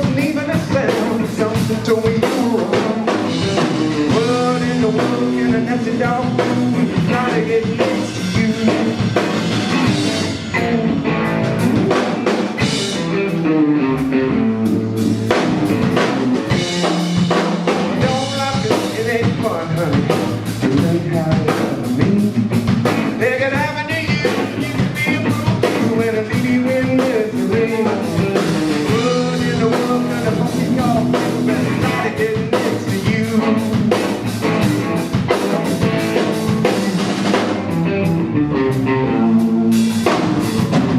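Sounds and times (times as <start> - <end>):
person singing: 0.0 - 12.0, 17.7 - 37.9, 38.6 - 40.9
bass guitar: 0.0 - 40.9
drum kit: 0.0 - 40.9
electric guitar: 0.0 - 40.9.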